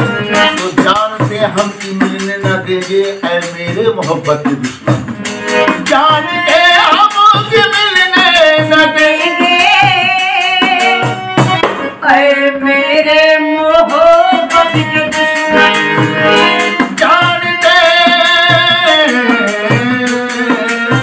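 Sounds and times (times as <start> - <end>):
person singing: 0.0 - 4.8, 5.7 - 21.0
frame drum beat: 0.0 - 12.0, 13.9 - 21.0
harmonium chords: 0.0 - 21.0.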